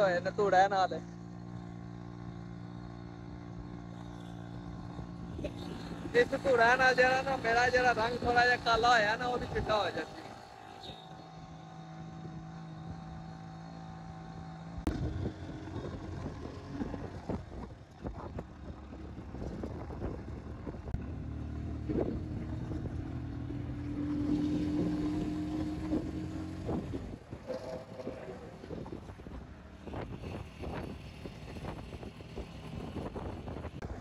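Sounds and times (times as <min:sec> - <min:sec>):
loader engine running: 0:00.0 - 0:34.0.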